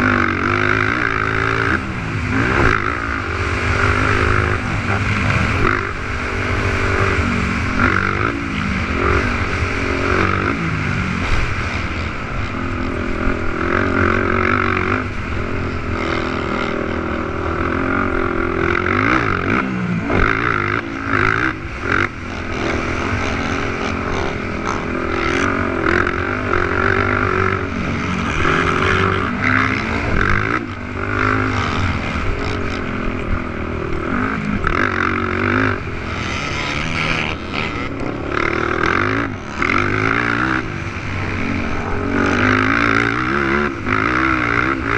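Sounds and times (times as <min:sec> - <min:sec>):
racing quad engines revving: 0:00.0 - 0:44.9.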